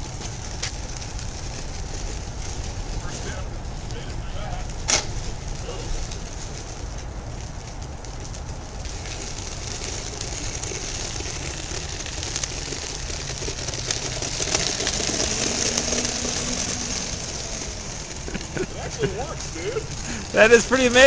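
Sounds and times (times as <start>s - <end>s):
wheel rolling over asphalt: 0.0s - 21.0s.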